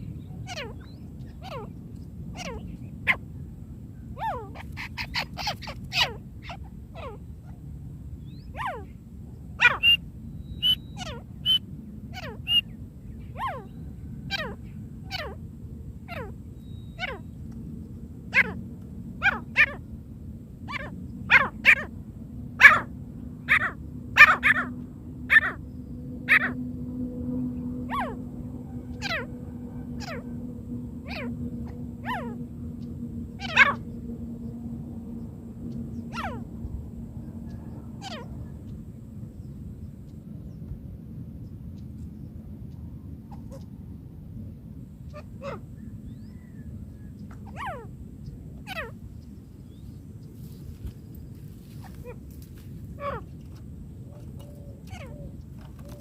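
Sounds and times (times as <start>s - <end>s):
steady low hum: 0.0s - 56.0s
francolin calls: 0.1s - 3.2s, 4.2s - 7.6s, 8.2s - 15.4s, 16.0s - 17.5s, 18.3s - 18.6s, 19.2s - 19.9s, 20.7s - 21.9s, 22.6s - 26.6s, 27.5s - 40.6s, 45.0s - 56.0s.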